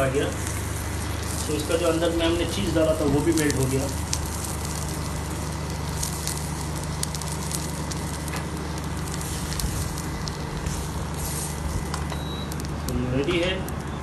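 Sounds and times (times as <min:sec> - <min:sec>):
butter sizzling in a frying pan: 0:00.0 - 0:12.9
low hum: 0:00.0 - 0:14.0.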